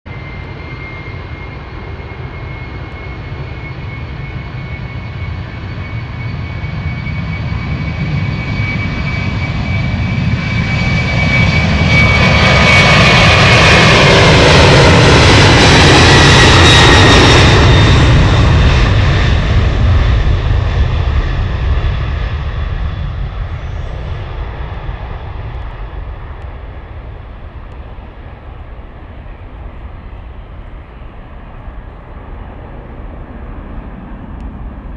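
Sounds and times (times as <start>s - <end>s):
jet airliner taking off: 0.1s - 34.9s.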